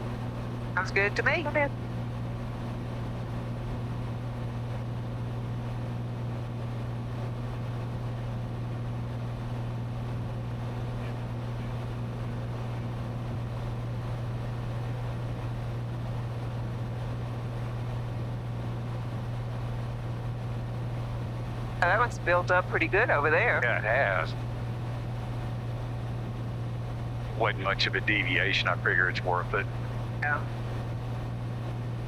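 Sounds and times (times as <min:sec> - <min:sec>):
plane engine and propeller droning: 0:00.0 - 0:32.0.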